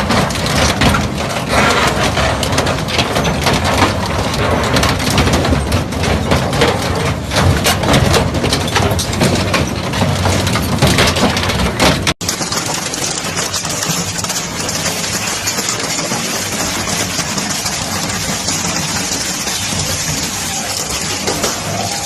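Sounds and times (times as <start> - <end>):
hammer crusher clattering: 0.0 - 22.0.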